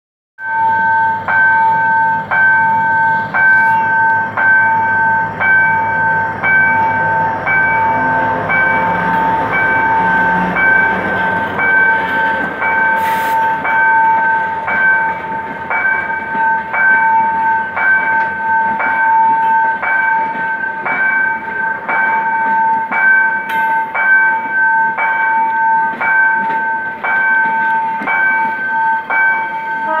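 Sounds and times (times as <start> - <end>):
level-crossing warning bell ringing: 0.4 - 30.0
train coaches rolling: 0.4 - 30.0
locomotive engine rumble: 0.5 - 30.0.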